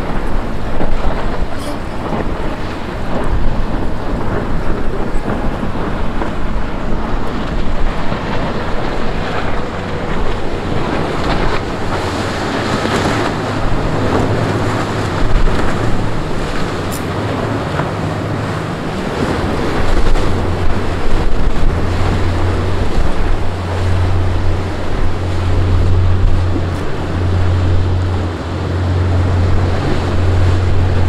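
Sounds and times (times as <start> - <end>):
outboard motors droning: 0.0 - 31.0
surf and boat wake: 0.0 - 31.0
wind buffeting microphone: 0.0 - 31.0.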